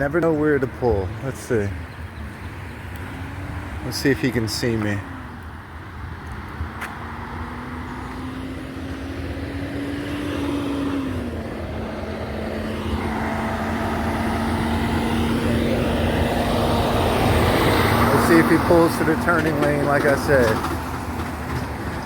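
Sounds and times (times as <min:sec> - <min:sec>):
heavy truck engine hum: 0:00.0 - 0:22.0
passing vehicle tyre noise: 0:00.0 - 0:22.0
road traffic: 0:00.0 - 0:22.0.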